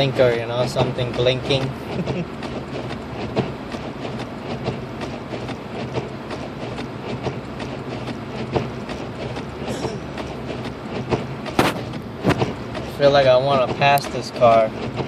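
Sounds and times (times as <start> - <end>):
engine and road drone: 0.0 - 15.0.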